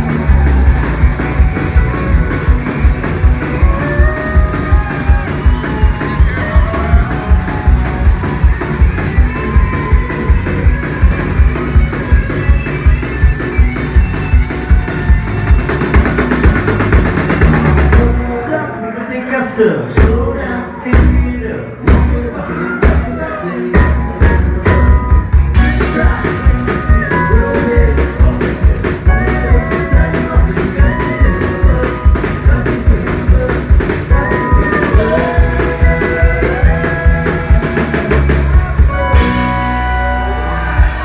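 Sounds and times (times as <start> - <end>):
country-rock band playing: 0.0 - 41.0.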